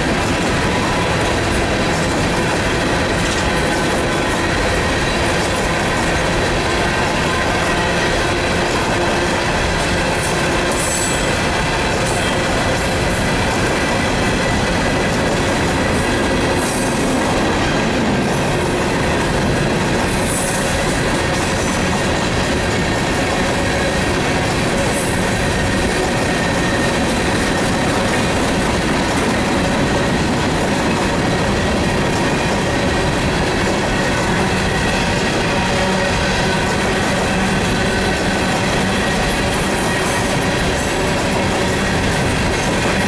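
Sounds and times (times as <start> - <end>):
freight wagons rumbling on rails: 0.0 - 43.0.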